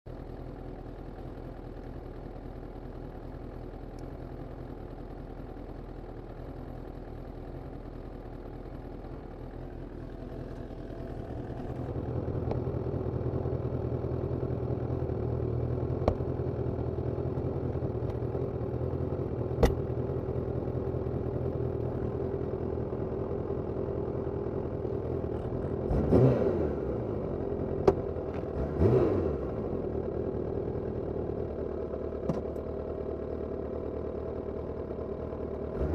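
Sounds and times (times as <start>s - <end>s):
motorcycle engine idling: 0.1s - 25.9s, 26.6s - 35.9s.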